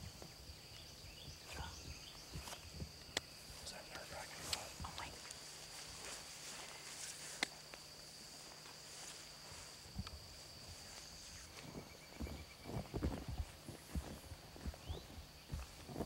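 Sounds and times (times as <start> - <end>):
insects droning: 0.0 - 16.0
footsteps through wet grass and mud: 1.5 - 16.0.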